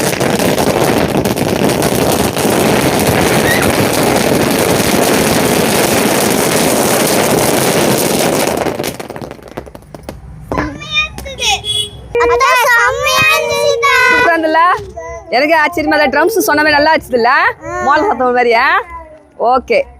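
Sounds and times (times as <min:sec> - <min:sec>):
firework fountain hissing and crackling: 0:00.0 - 0:11.5, 0:12.2 - 0:17.5.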